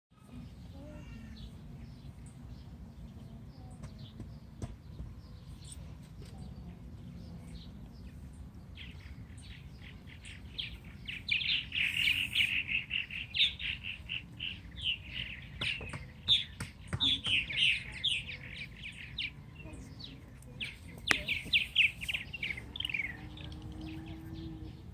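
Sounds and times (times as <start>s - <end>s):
small bird chirping: 0.2s - 24.9s.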